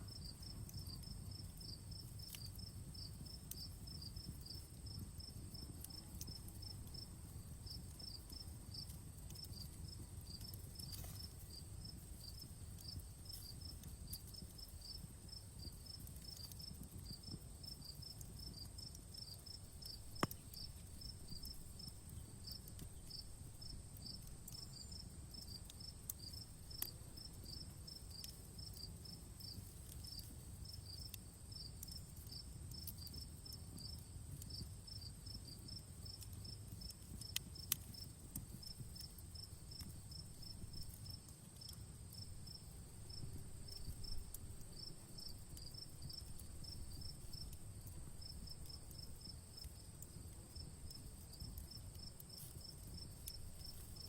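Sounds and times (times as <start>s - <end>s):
campfire crackling pops: 0.0s - 54.0s
crickets chirping: 0.0s - 54.0s.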